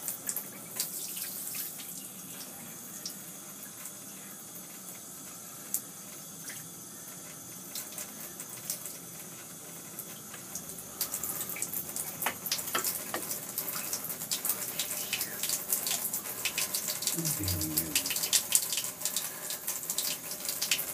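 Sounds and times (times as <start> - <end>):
shower spraying into bathtub: 0.0 - 20.9.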